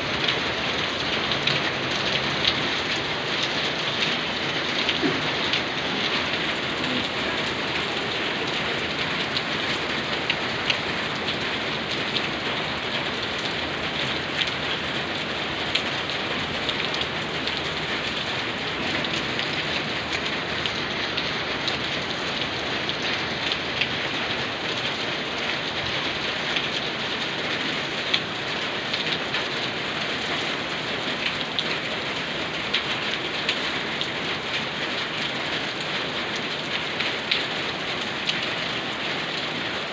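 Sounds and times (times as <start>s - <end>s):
steady rain falling: 0.0s - 39.9s
raindrop ticks: 0.2s - 24.1s, 31.2s - 39.5s.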